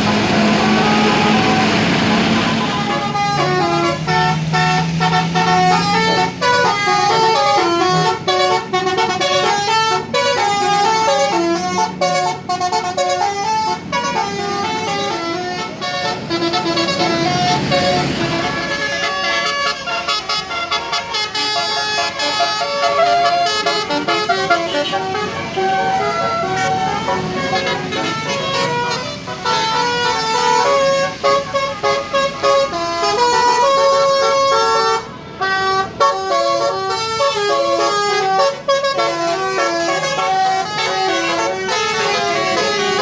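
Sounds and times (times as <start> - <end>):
musical bus horn playing a tune: 0.0 - 43.0.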